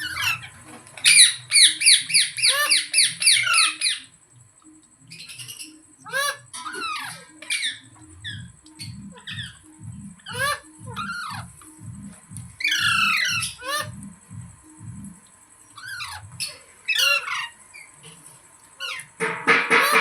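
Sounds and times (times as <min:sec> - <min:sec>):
parrot squawking: 0:00.0 - 0:04.1, 0:05.1 - 0:14.5, 0:15.7 - 0:18.0, 0:18.8 - 0:20.0.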